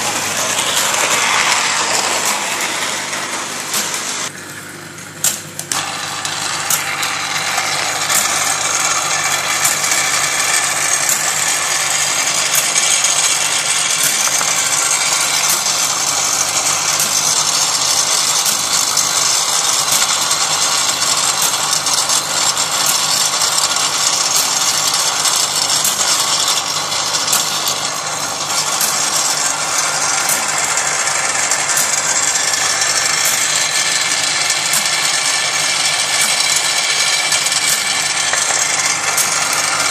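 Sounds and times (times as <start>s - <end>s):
small electric motor whirring: 0.0s - 4.3s, 5.6s - 39.9s
small mechanical clicks: 5.2s - 39.9s.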